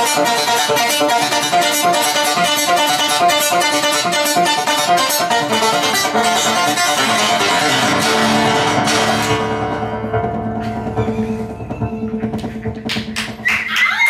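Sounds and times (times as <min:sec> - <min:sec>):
acoustic guitar picking: 0:00.0 - 0:13.5.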